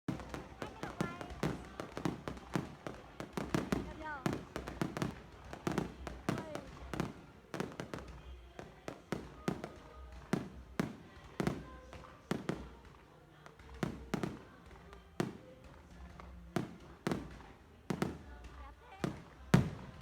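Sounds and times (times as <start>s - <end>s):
fireworks bangs: 0.1s - 20.0s.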